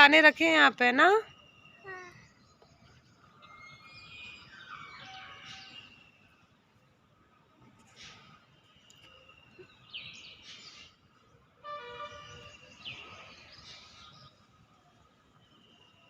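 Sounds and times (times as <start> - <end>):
small birds chirping: 0.1 - 6.4, 7.8 - 14.6.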